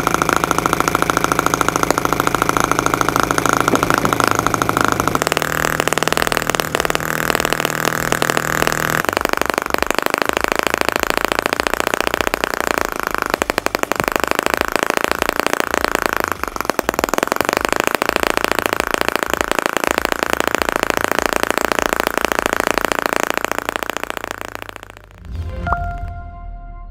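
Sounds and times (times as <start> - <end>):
model engine putter: 0.0 - 25.1.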